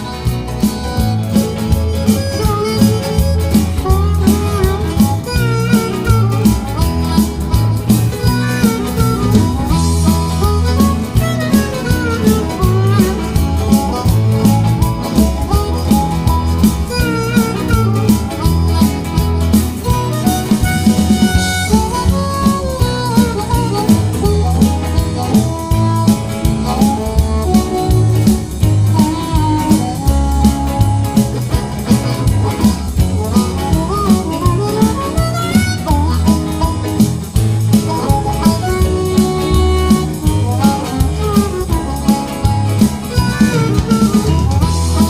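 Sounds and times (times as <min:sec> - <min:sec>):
guitar: 0:00.0 - 0:45.0
harmonica-like melody: 0:00.0 - 0:45.0
upbeat blues music: 0:00.0 - 0:45.0.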